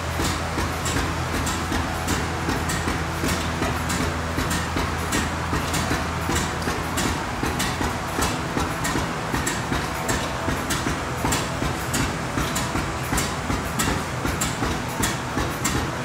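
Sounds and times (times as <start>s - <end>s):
old gas engines clattering: 0.0s - 16.0s
steady mechanical rumble: 0.0s - 16.0s.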